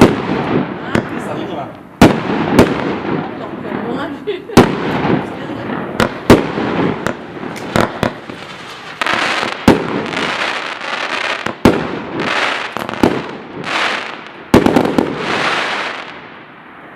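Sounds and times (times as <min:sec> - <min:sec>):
fireworks bangs: 0:00.0 - 0:16.9
hissing crackling fireworks bursts: 0:00.0 - 0:16.9.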